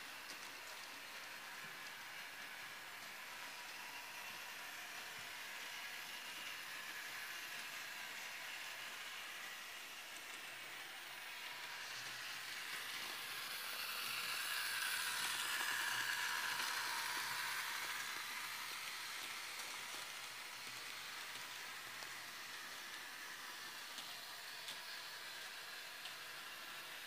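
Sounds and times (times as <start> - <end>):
model train motor whirring: 0.0 - 27.0.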